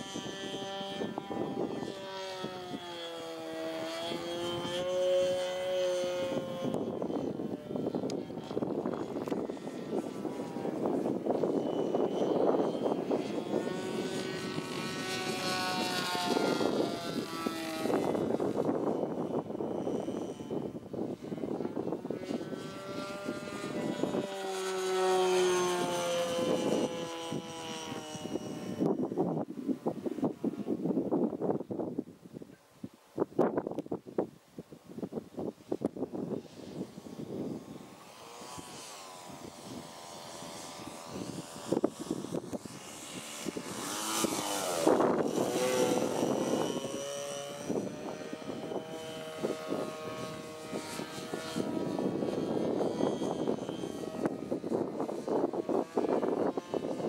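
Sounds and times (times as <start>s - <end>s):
model plane engine drone: 0.0s - 57.0s.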